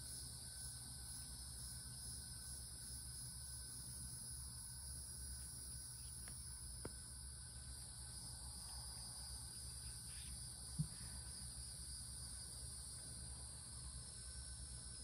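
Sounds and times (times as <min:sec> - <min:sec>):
insect chorus droning: 0:00.0 - 0:15.0.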